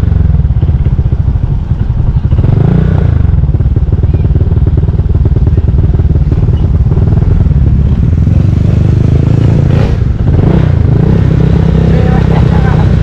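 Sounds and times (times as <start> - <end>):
motorcycle passing: 0.0 - 13.0
scooter engine running: 0.0 - 13.0
wind and road noise: 0.0 - 13.0.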